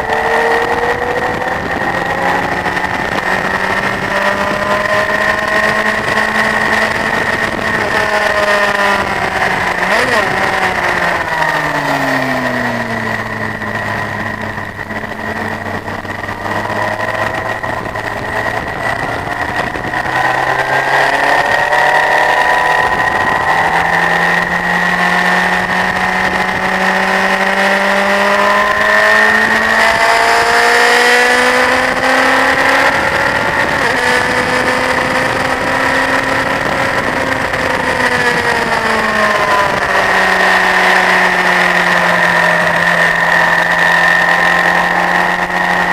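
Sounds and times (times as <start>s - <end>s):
motorcycle engine: 0.0s - 45.9s.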